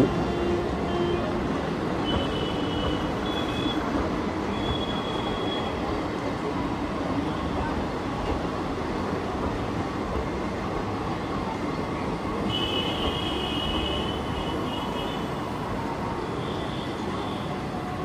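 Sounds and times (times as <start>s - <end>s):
train coaches rumbling past: 0.0s - 18.0s.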